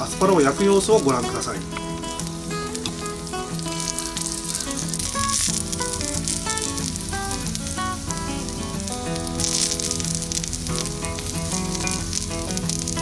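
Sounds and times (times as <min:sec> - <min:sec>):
background music: 0:00.0 - 0:13.0
vegetables sizzling in oil: 0:00.0 - 0:13.0.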